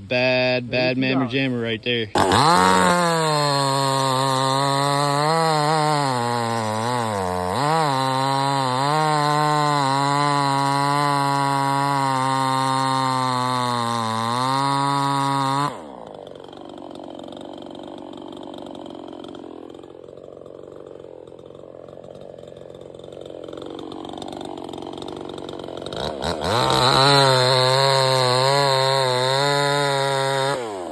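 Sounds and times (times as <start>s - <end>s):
chainsaw revving: 0.0s - 30.9s.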